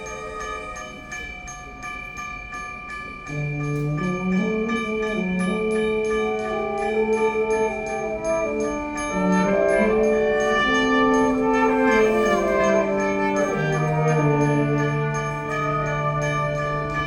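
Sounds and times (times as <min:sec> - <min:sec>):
low wind instruments sustained notes: 0:00.0 - 0:17.0
mallet percussion pattern: 0:00.0 - 0:17.0.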